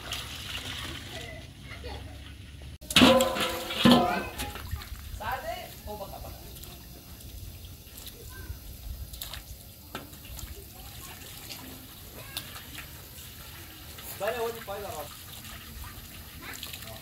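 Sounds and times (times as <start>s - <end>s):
hose trickling water: 2.8s - 17.0s.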